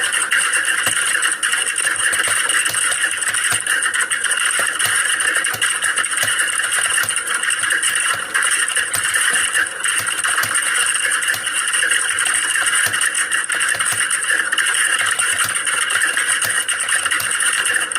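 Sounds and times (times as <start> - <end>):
keyboard typing: 0.0 - 17.9.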